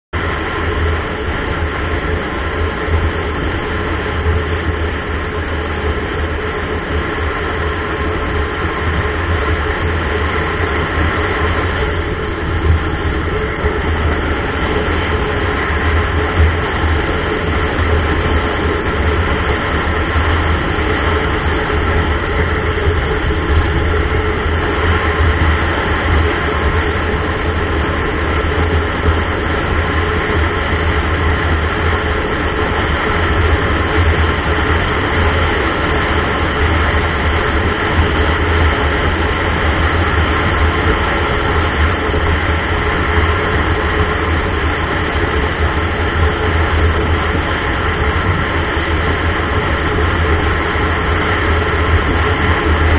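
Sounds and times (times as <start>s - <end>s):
vehicle engine drone: 0.1s - 52.9s
wind noise: 0.1s - 52.9s
road noise: 0.2s - 52.9s.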